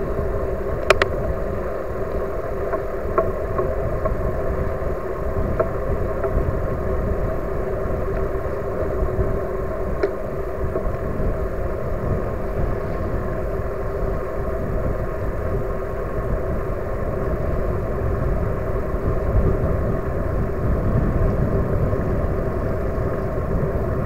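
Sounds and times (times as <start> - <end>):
steady hum: 0.0 - 24.0
tyres rolling on asphalt: 0.0 - 24.0
wind rumbling on microphone: 0.0 - 24.0.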